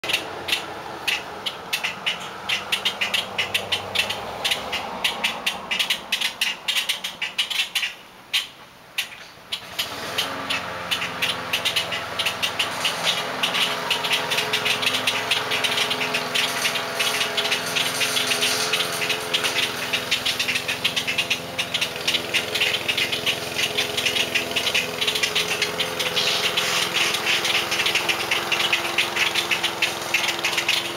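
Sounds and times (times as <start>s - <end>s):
grackles harsh chirps and clacks: 0.0s - 30.9s
steady mechanical hum: 0.0s - 30.9s.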